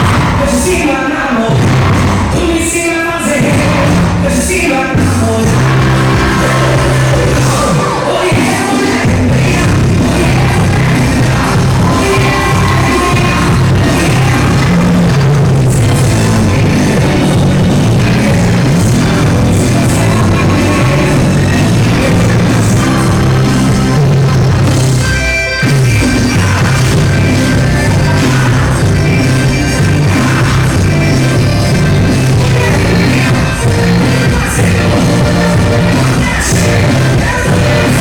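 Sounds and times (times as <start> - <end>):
loud music: 0.0 - 38.0.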